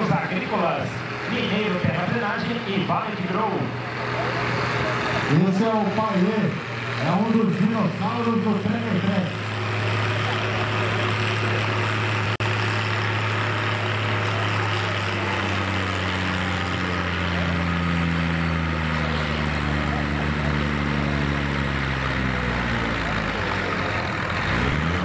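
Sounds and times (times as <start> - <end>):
tractor diesel engine revving: 0.0 - 25.0.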